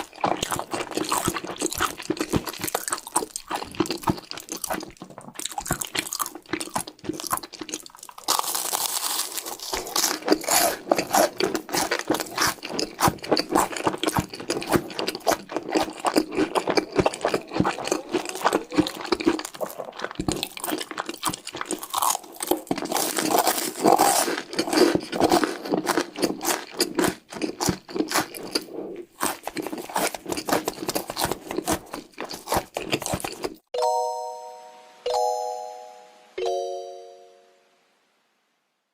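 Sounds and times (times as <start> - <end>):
crunching and chewing snacks: 0.0 - 33.7.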